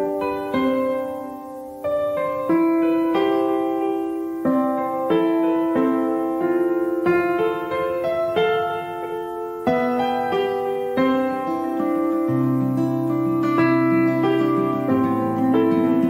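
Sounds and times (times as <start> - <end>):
piano slow sustained chords: 0.0 - 16.0.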